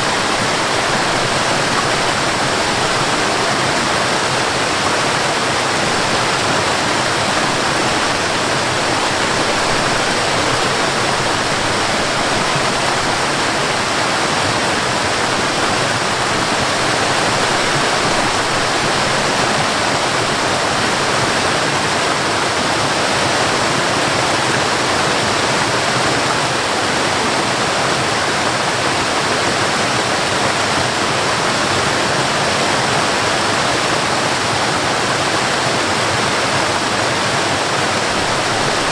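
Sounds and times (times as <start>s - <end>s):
cascading water: 0.0s - 38.9s.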